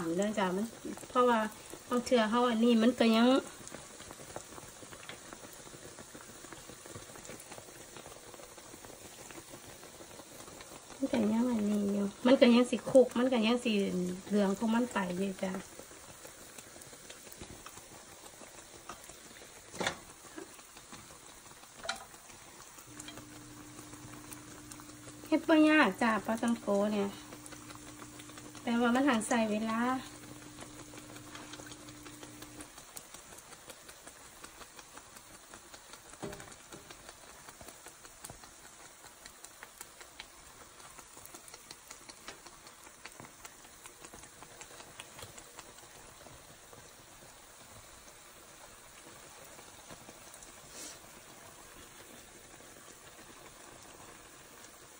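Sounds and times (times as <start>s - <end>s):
dough deep-frying in oil: 0.0s - 54.9s.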